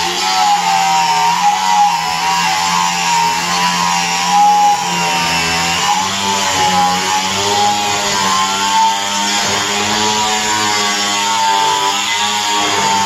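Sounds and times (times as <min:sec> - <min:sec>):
angle grinder motor whine: 0:00.0 - 0:13.0.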